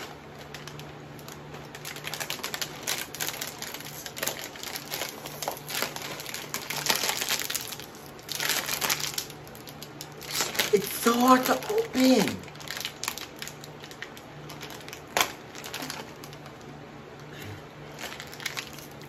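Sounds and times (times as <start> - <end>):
plastic snack bag crackling: 0.0 - 16.7, 17.9 - 19.0.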